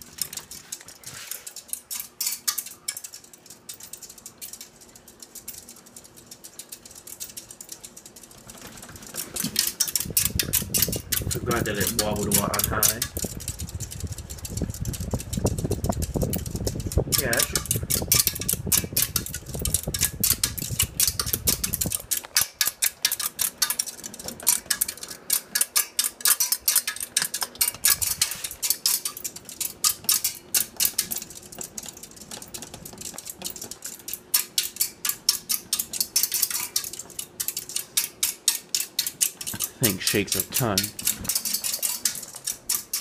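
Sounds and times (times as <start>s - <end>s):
ceiling fan metallic rattle: 0.0s - 43.0s.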